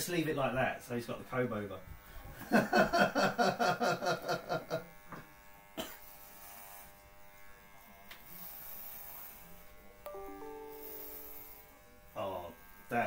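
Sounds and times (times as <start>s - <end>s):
electric hair clippers buzzing: 1.9s - 13.0s.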